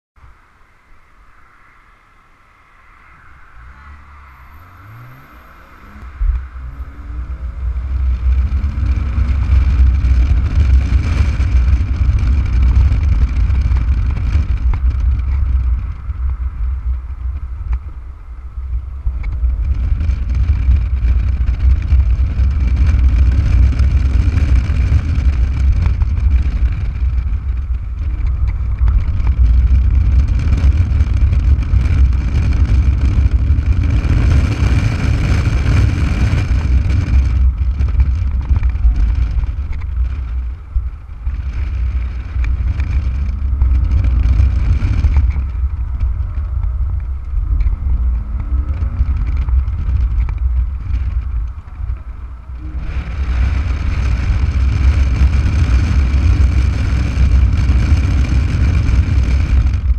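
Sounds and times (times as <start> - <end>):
car engine accelerating: 0.2 - 59.9
wind rush: 0.2 - 59.9.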